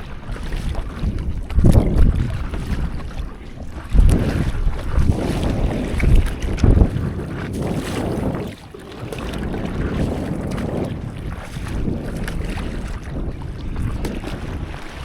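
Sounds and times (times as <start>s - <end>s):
water sloshing and lapping: 0.0s - 15.0s
wind buffeting microphone: 0.0s - 15.0s.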